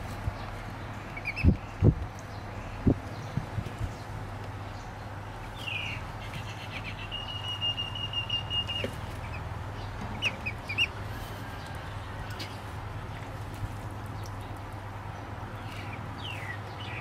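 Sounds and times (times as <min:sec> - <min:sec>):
ducklings peeping: 0:00.2 - 0:04.1, 0:05.4 - 0:17.0.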